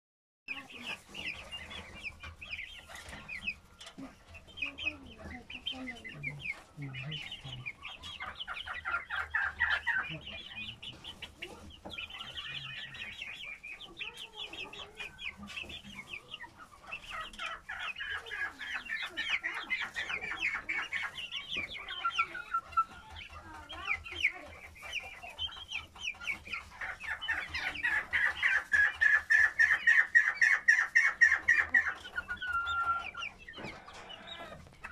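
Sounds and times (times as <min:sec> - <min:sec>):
chickens calling: 0:00.5 - 0:34.9.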